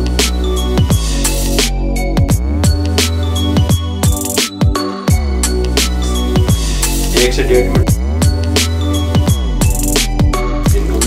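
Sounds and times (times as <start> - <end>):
electronic music with bass: 0.0 - 11.0.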